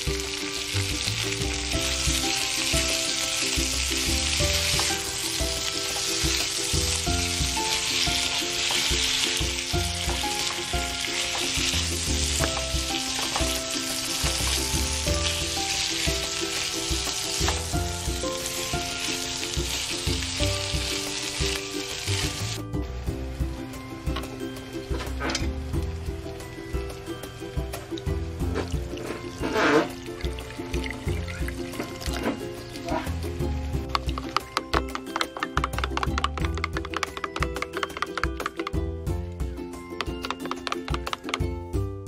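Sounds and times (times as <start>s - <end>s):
vegetables sizzling in a pan: 0.0s - 36.1s
soft background music: 0.0s - 42.0s.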